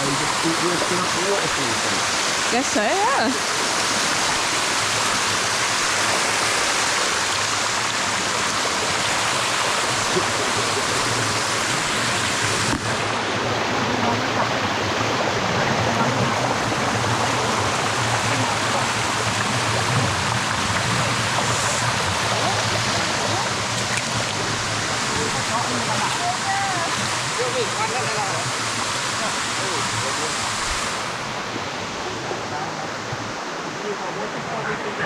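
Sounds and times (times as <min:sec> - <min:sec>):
waterfall rushing over rocks: 0:00.0 - 0:35.0.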